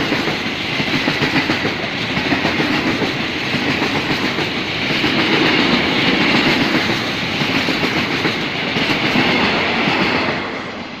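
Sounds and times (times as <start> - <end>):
clickety-clack over rail joints: 0.0 - 11.0
train wheels rolling: 0.0 - 11.0.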